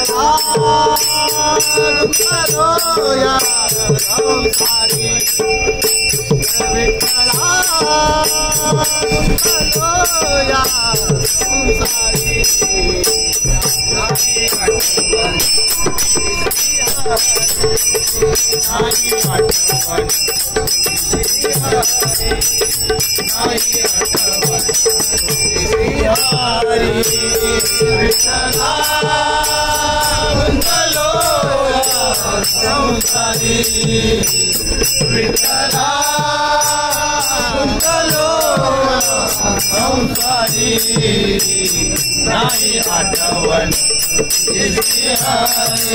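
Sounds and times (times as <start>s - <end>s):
drum beats: 0.0s - 45.9s
hand cymbals clashing: 0.0s - 45.9s
men singing devotional song: 0.0s - 45.9s.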